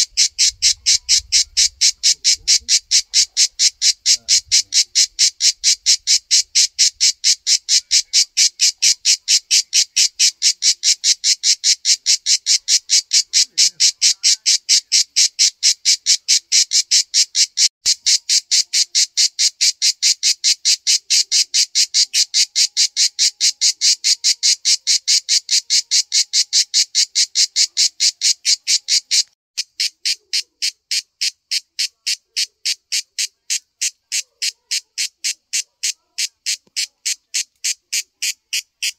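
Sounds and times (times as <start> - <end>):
cicada singing: 0.0 - 38.9.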